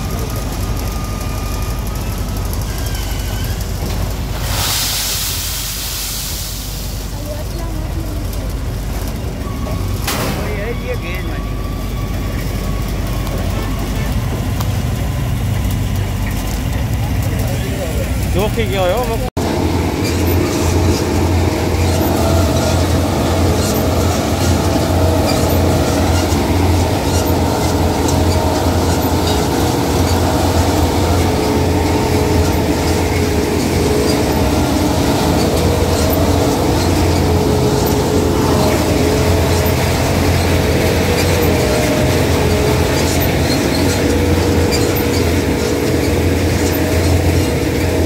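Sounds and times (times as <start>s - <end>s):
harvesting machine droning: 0.0s - 4.7s, 7.1s - 48.0s
machine whine: 0.0s - 5.8s, 6.5s - 48.0s.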